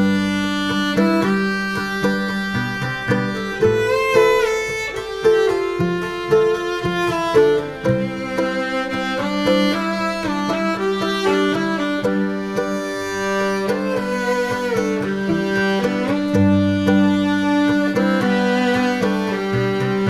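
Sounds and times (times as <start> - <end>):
violin melody: 0.0 - 20.0.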